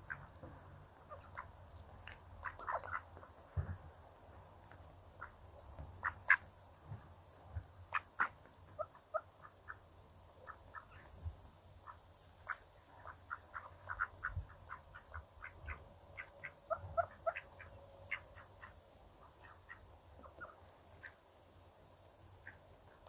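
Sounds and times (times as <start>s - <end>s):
ducks clicking and chattering: 0.0s - 11.2s, 11.8s - 21.3s, 22.3s - 23.0s.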